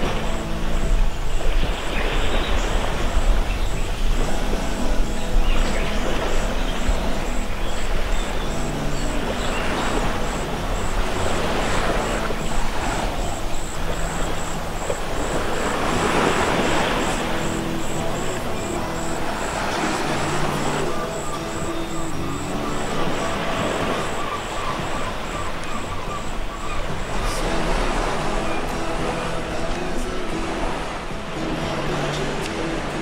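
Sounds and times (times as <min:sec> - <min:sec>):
low held notes: 0:00.0 - 0:33.0.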